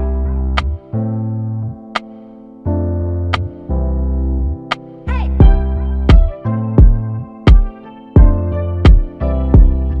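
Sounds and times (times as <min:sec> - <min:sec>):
keyboard chords and bass: 0:00.0 - 0:10.0.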